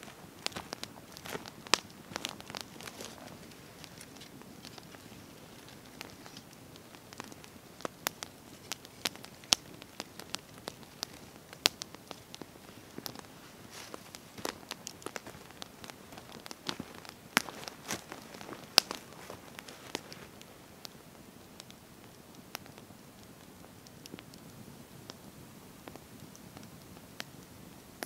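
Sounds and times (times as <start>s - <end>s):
sharp pops of burning wood: 0.0s - 27.4s
campfire crackling: 0.0s - 28.0s.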